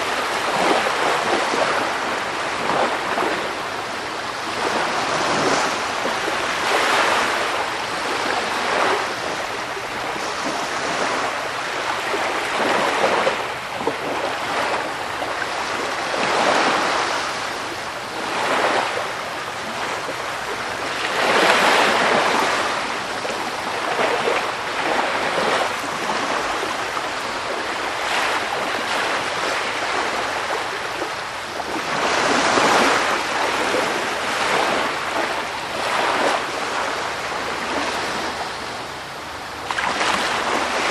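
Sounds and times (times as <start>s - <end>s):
sea waves washing onto shore: 0.0s - 40.9s.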